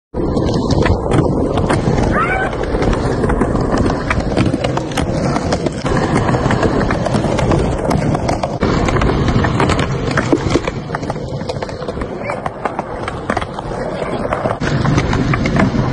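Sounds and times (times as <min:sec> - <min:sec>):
skateboard wheels rumbling on asphalt: 0:00.1 - 0:15.9
skateboard clacking on landing: 0:00.6 - 0:15.9.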